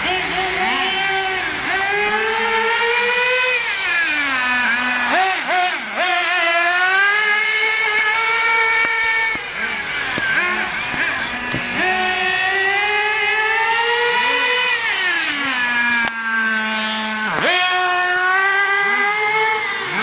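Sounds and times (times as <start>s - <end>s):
toy car motor revving: 0.0s - 20.0s.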